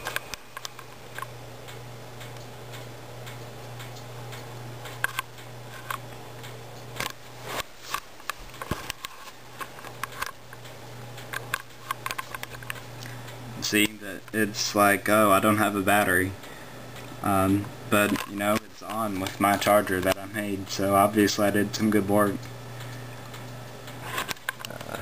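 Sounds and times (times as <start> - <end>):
hard drive clicking: 0.0 - 25.0.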